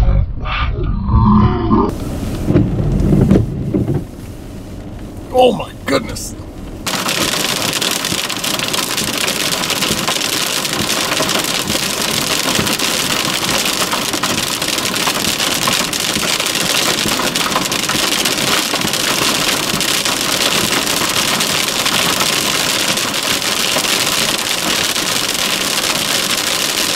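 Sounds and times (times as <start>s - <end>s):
heavy rain pattering: 1.9s - 26.9s.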